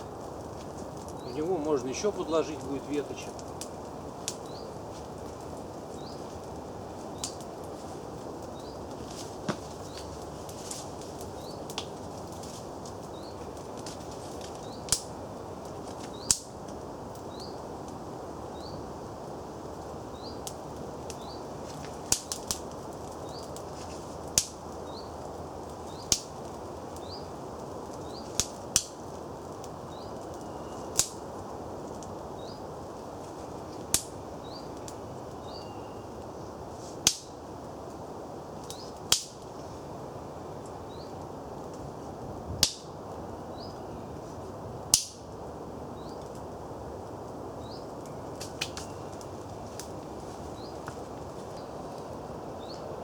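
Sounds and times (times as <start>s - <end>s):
fire crackling and popping: 0.0s - 53.0s
fire hissing: 0.0s - 53.0s.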